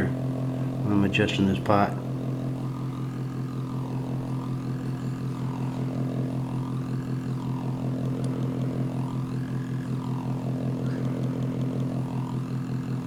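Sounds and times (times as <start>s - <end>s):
electronic circuit hum: 0.0s - 13.0s
rising and falling electronic tones: 0.0s - 13.0s.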